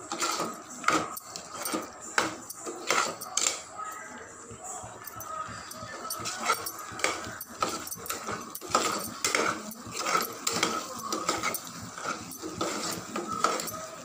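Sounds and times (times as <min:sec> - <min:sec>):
steel spoon scraping a pot: 0:00.0 - 0:03.7, 0:05.0 - 0:14.0.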